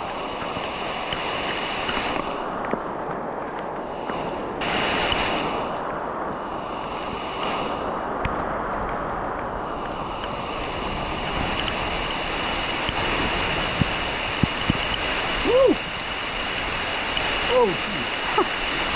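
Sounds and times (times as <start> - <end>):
flowing water rushing: 0.0 - 18.9.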